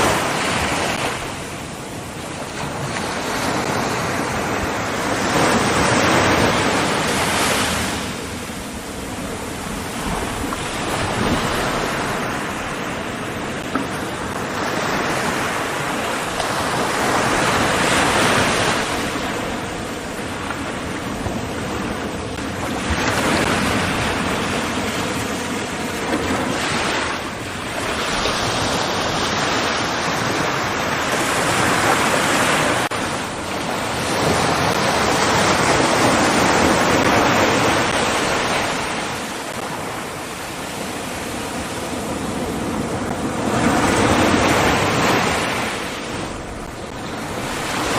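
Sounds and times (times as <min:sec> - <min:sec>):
ocean waves washing: 0:00.0 - 0:47.9.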